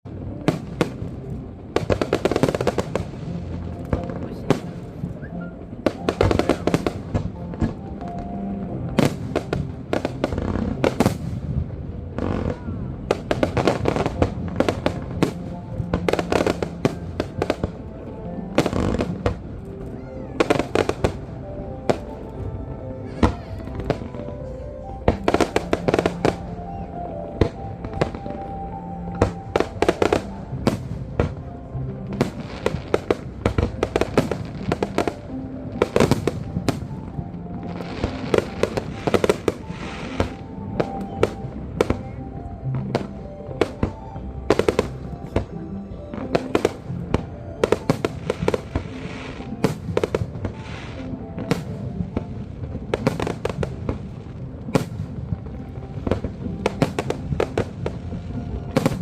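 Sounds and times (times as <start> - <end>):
music playing: 0.0 - 59.0
fireworks bangs: 0.1 - 22.2, 23.0 - 59.0.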